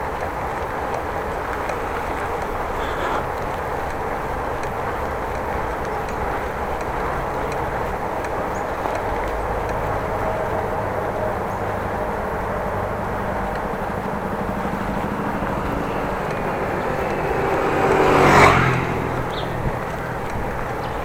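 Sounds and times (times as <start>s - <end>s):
motor vehicle passing: 0.0s - 21.0s
wind and road noise of bicycle: 0.0s - 21.0s.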